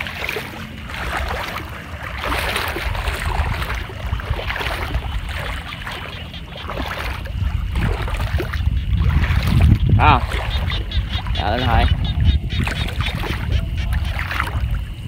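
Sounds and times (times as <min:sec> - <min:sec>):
low rumble: 0:00.0 - 0:15.0
water sloshing around wading legs: 0:00.0 - 0:15.0.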